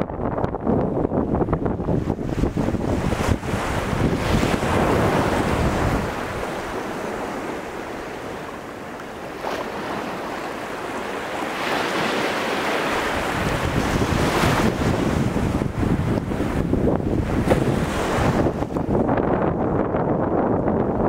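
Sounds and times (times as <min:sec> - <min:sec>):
ocean surf against rocks: 0:00.0 - 0:20.5
wind buffeting microphone: 0:00.0 - 0:21.0.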